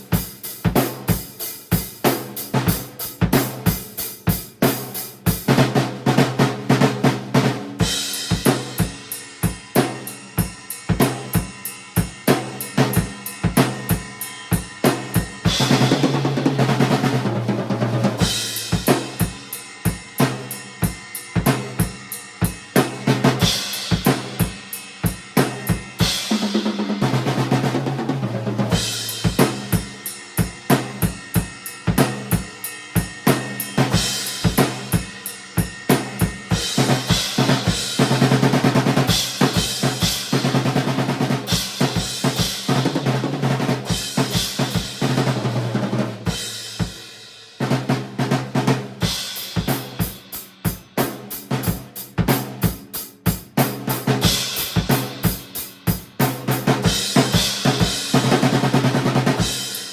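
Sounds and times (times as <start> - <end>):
cymbals: 0.0 - 59.9.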